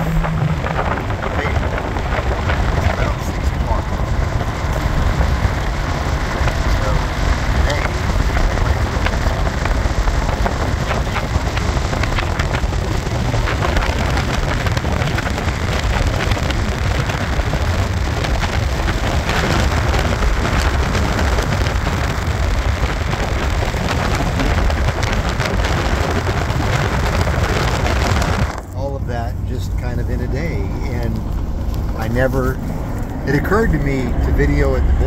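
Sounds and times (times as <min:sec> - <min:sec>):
gravel crackling under tyres: 0:00.0 - 0:35.0
truck road rumble: 0:00.0 - 0:35.0.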